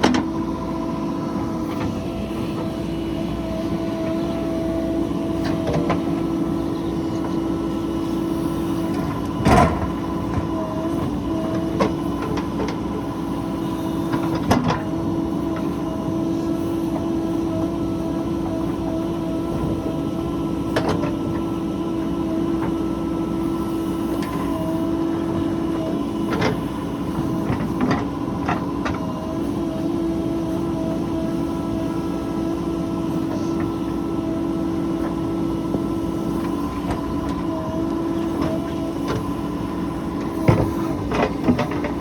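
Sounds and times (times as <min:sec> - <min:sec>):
heavy diesel machinery droning: 0:00.0 - 0:42.0.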